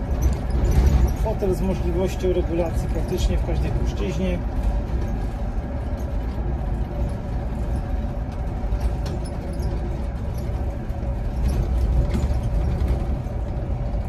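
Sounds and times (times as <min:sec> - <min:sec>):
road and tyre rumble: 0:00.0 - 0:14.0.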